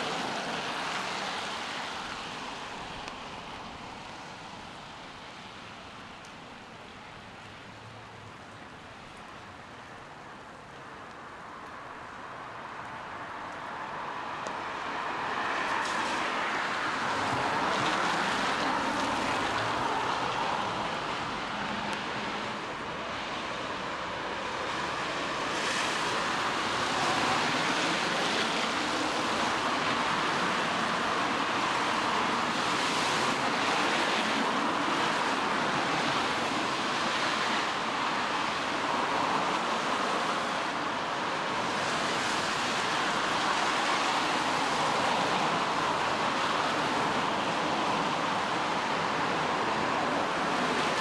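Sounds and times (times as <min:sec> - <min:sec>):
rain on a wet street: 0:00.0 - 0:51.0.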